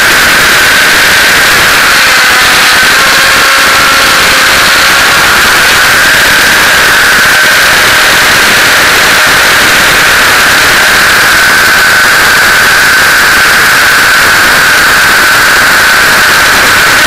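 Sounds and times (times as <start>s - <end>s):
helicopter rotor wash rushing: 0.0s - 17.0s
high motor whine: 0.0s - 17.0s.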